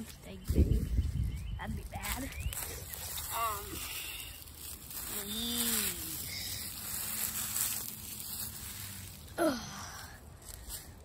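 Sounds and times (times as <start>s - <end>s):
rustling of dead leaves: 0.0s - 11.0s.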